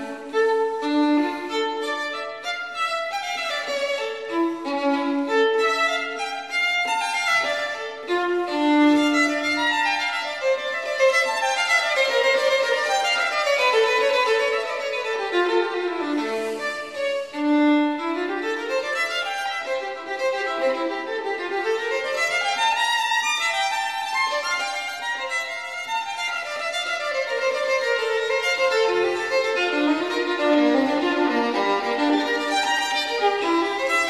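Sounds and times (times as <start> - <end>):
solo violin melody: 0.0 - 34.0.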